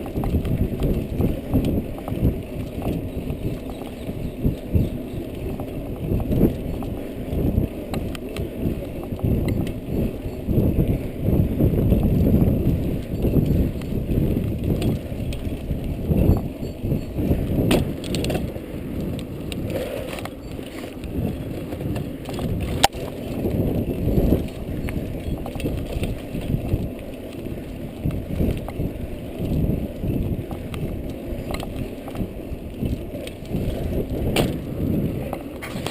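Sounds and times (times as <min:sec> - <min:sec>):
vehicle rumbling and rattling: 0:00.0 - 0:35.9.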